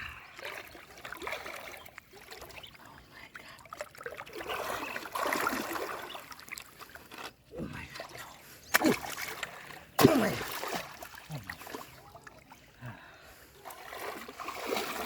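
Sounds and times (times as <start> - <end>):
shallow water splashing: 0.2 - 12.8, 13.4 - 15.0.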